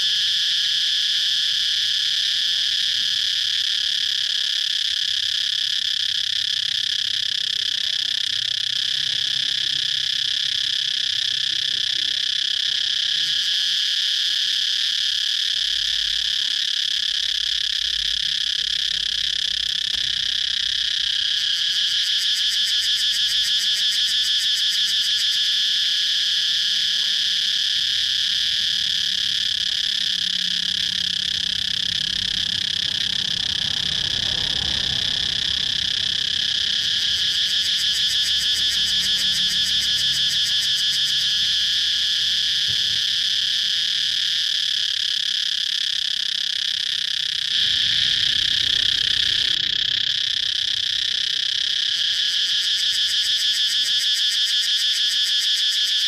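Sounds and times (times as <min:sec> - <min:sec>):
cicadas chirping: 0:00.0 - 0:56.0.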